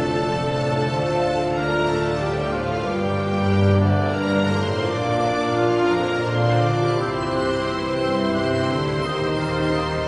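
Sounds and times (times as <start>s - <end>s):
slow sustained background music: 0.0s - 10.0s.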